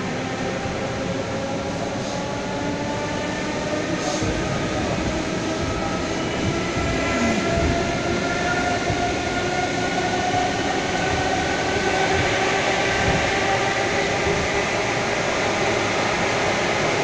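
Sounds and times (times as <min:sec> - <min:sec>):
train carriage rumble and rattle: 0:00.0 - 0:17.0
train whine: 0:00.0 - 0:17.0.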